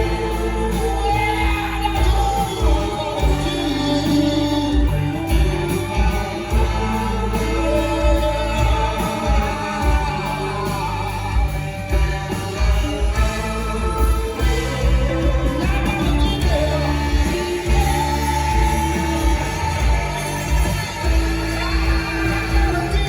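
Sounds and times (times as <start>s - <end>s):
bass: 0.0s - 23.0s
brass section: 0.0s - 23.0s
rock band playing: 0.0s - 23.0s
singing and backing voices: 0.0s - 23.0s
steady drum beat: 0.0s - 23.0s.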